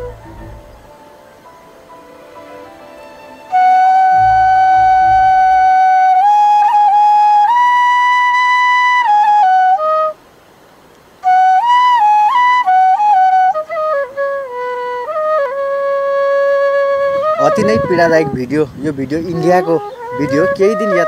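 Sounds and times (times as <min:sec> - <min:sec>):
solo flute playing slow melody: 0:00.0 - 0:21.0.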